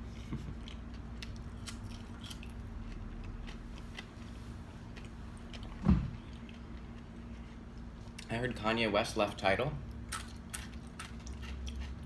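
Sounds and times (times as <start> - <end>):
chewing fries: 0.1 - 8.3, 9.8 - 12.0.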